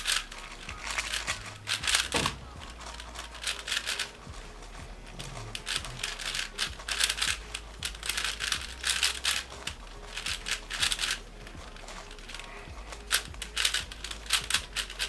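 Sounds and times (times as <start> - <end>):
plastic cube clicking: 0.0 - 15.0.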